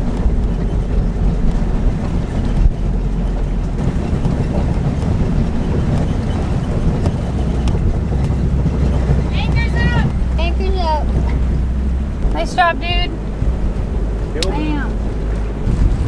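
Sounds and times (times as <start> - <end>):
strong wind buffeting microphone: 0.0 - 16.0
water rushing along hull: 0.0 - 16.0.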